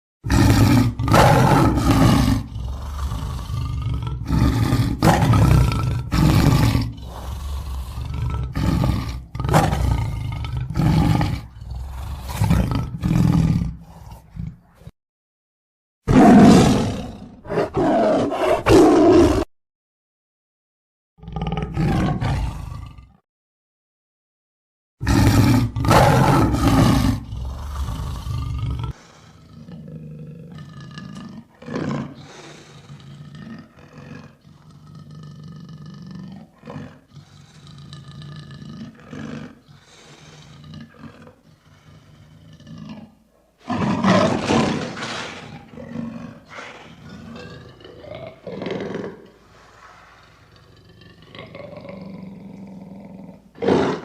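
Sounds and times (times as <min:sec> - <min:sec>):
lion roaring: 0:00.2 - 0:14.9, 0:16.1 - 0:19.5, 0:21.2 - 0:23.2, 0:25.0 - 0:54.0
lion's low calls: 0:00.3 - 0:14.6, 0:25.0 - 0:54.0.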